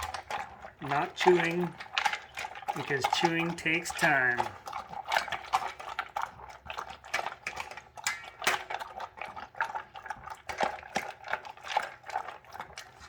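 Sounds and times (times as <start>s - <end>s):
dog slurping: 0.0s - 13.0s
kibble clacking against bowl: 0.0s - 13.0s.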